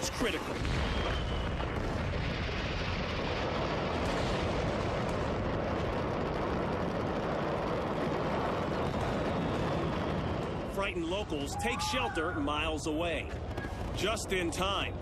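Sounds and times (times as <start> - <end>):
fireworks crackling explosions: 0.0 - 15.0.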